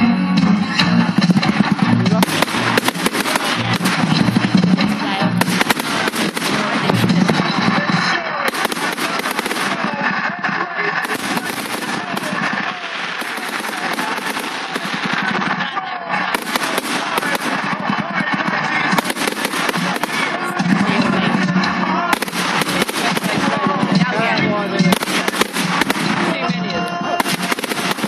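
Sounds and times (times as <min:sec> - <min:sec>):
music playing: 0:00.0 - 0:28.0
fireworks crackling and banging: 0:00.7 - 0:28.0.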